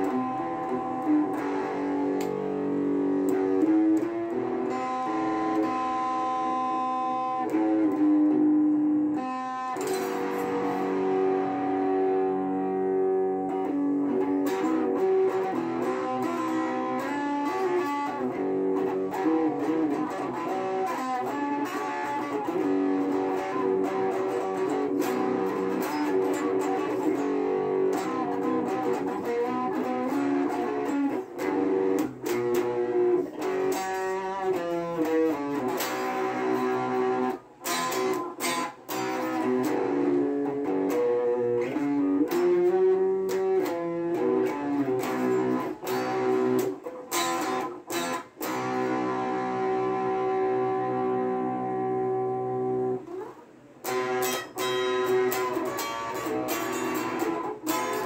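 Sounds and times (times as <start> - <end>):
electric guitar through amplifier: 0.0 - 58.0.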